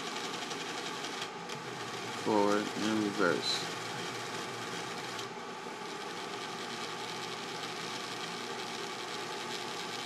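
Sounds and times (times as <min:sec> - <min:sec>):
small electric motor whirring: 0:00.0 - 0:10.0.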